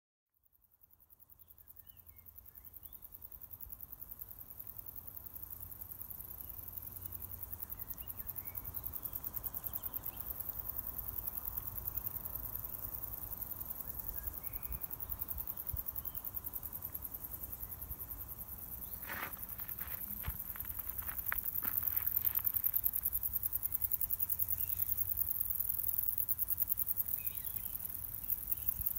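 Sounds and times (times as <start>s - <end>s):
insects chirring: 0.9s - 28.9s.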